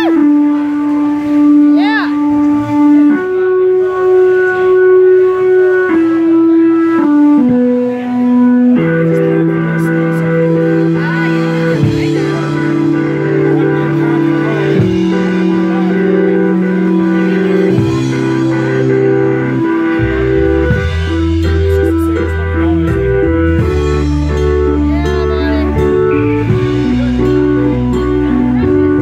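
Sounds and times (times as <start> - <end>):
bass notes: 0.0 - 29.0
electric organ chords: 0.0 - 29.0.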